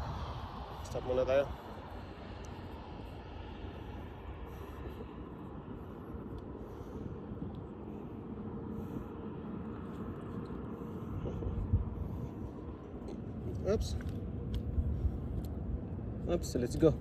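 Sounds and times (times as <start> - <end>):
low outdoor background rumble: 0.0 - 17.0.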